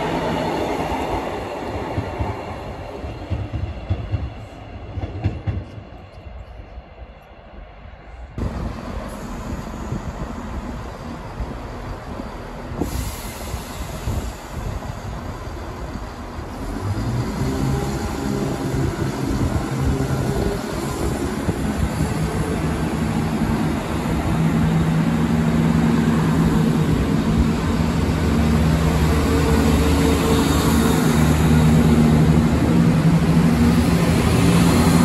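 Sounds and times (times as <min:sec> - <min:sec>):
train engine drone: 0:00.0 - 0:35.0.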